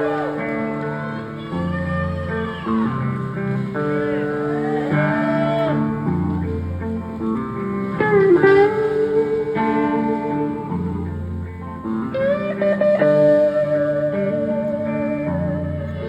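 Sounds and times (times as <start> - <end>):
lead guitar bending notes: 0.0 - 16.0.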